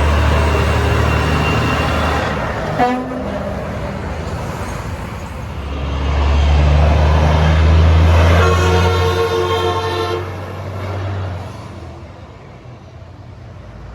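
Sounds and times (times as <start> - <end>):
truck engine rumble: 0.0 - 13.9.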